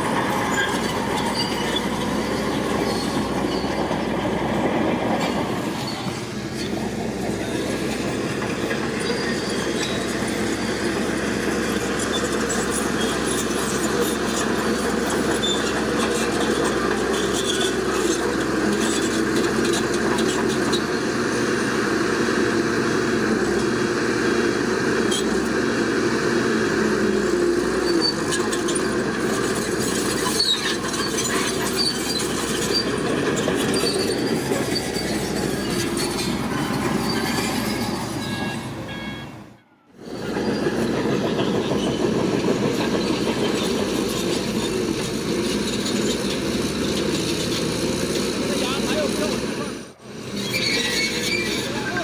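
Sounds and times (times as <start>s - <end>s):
bulldozer diesel engine running: 0.0s - 52.0s
steel tracks clattering: 0.0s - 52.0s.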